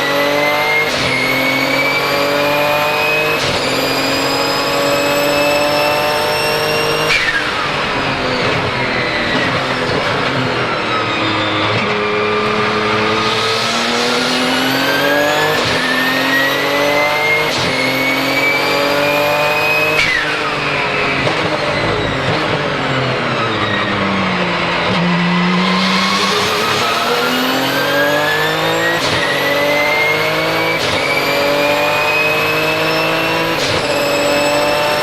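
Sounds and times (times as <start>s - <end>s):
race car engine accelerating: 0.0s - 35.0s
turbo whistle: 0.5s - 9.6s, 10.9s - 22.6s, 25.4s - 35.0s.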